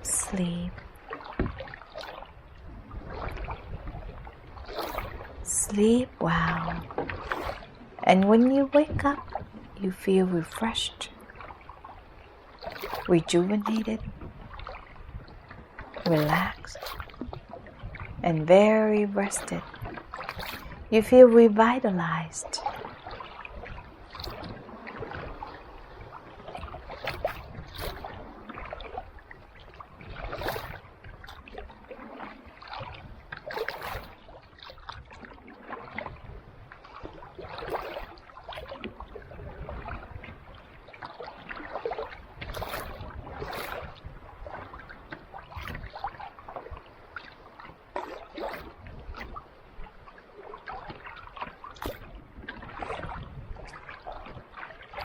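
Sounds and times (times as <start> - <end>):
paddle splashing in water: 0.0 - 55.0
soft wash of water: 0.0 - 55.0.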